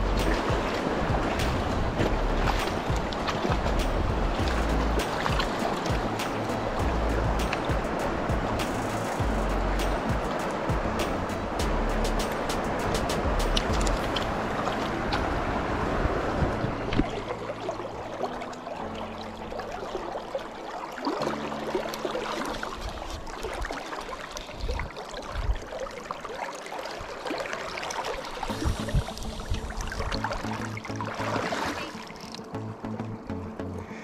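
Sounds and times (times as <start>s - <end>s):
river water splashing: 0.0s - 34.0s.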